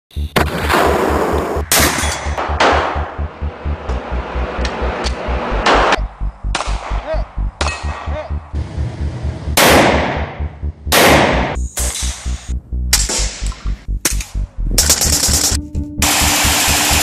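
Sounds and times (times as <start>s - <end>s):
music with low beat: 0.1s - 17.0s.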